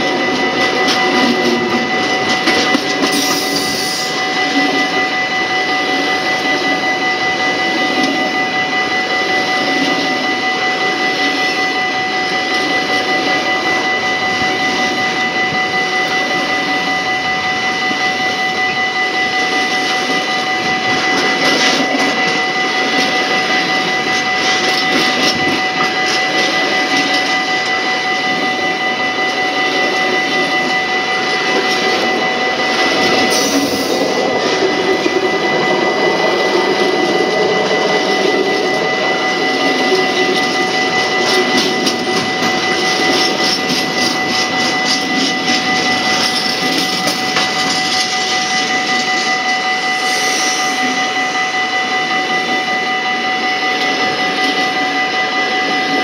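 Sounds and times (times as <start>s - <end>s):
high-pitched ringing tone: 0.0s - 56.0s
steel wheels rumbling on rail: 0.0s - 56.0s.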